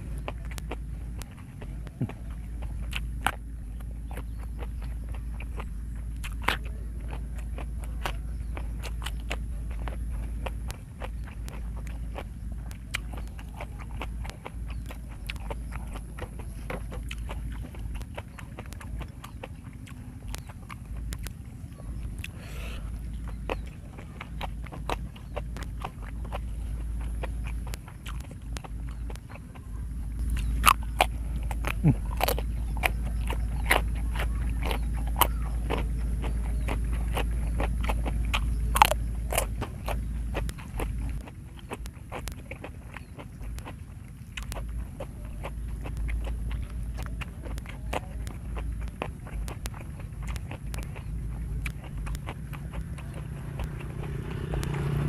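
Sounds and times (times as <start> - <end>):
chewing and lip smacks: 0.0 - 55.0
low rumble: 0.0 - 55.0.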